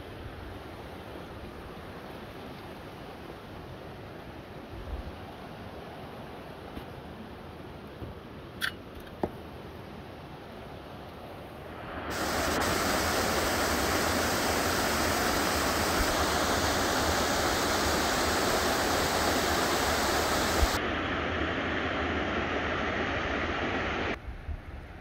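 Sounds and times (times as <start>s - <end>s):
rushing water: 0.0s - 8.5s, 9.4s - 24.2s.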